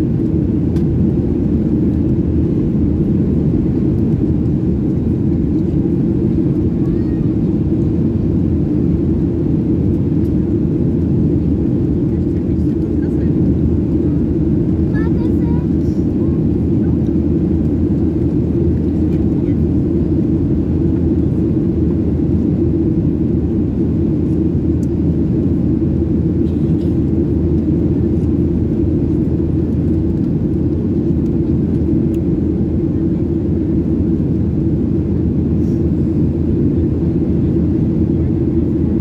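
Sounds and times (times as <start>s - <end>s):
airplane cabin engine roar: 0.0s - 39.0s.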